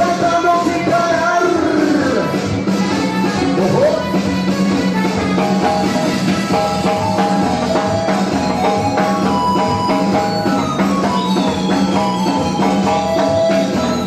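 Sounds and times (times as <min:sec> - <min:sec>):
electronic keyboard sustained notes: 0:00.0 - 0:14.0
steady drum beat: 0:00.0 - 0:14.0.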